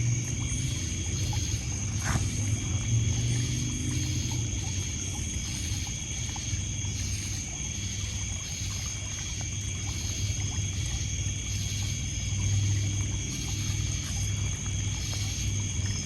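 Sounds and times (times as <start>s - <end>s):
crickets trilling: 0.0s - 16.0s
water lapping on pebbles: 0.0s - 16.0s.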